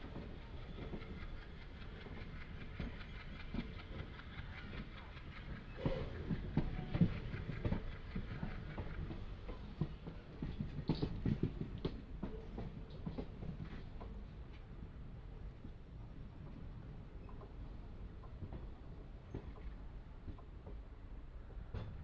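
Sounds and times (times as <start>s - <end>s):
train rumbling on rails: 0.0s - 22.0s
train wheels clicking and knocking: 0.0s - 22.0s.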